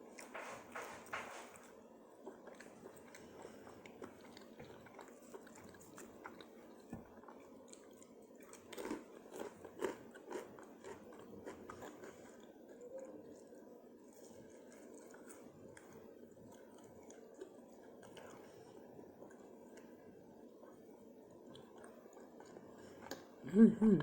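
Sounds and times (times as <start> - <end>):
person chewing and crunching food: 0.0 - 23.4.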